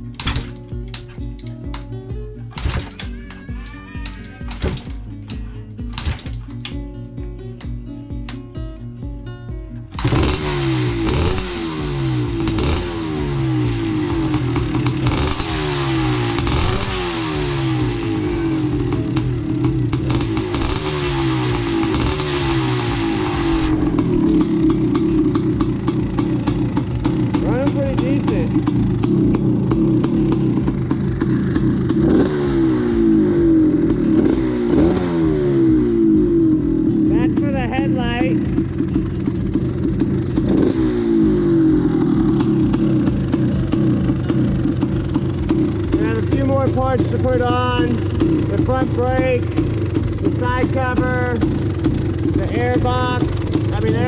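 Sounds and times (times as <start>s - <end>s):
two-stroke engine revving: 0.0s - 8.5s, 9.8s - 54.0s
engine clattering: 0.0s - 8.8s, 9.8s - 54.0s.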